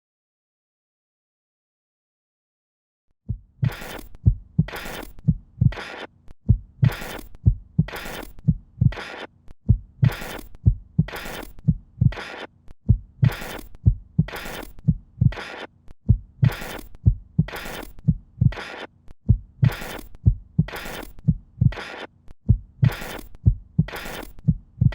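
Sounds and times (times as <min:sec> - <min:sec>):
low rhythmic thump: 0:03.3 - 0:24.9.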